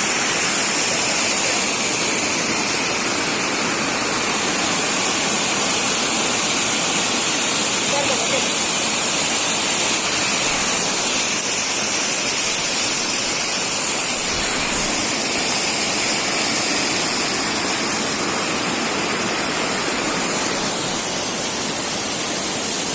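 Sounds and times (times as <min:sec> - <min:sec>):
water rushing: 0:00.0 - 0:22.9.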